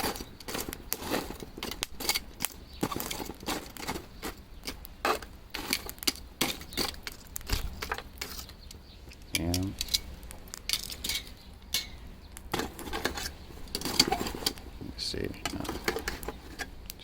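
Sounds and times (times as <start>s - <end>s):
charcoal pieces clinking: 0.0s - 14.6s, 15.2s - 17.0s.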